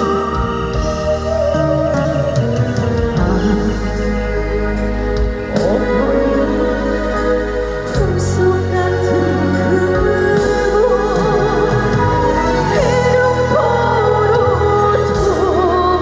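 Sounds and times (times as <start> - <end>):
keyboard and bass backing track: 0.0 - 16.0
woman singing with vibrato: 0.0 - 16.0.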